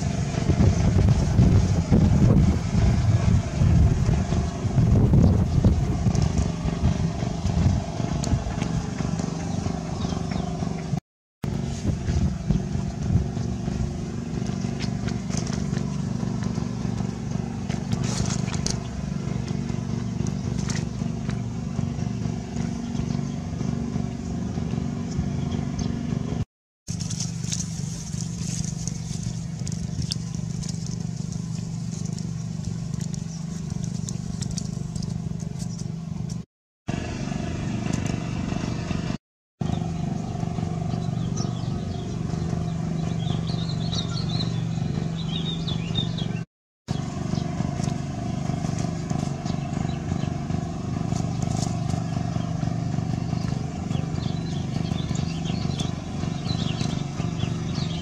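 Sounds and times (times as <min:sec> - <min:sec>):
low engine-like drone: 0:00.0 - 0:58.0.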